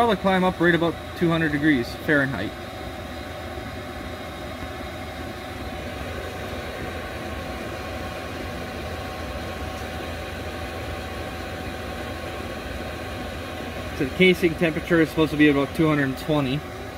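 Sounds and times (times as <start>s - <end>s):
air heater blower humming: 0.0s - 16.9s.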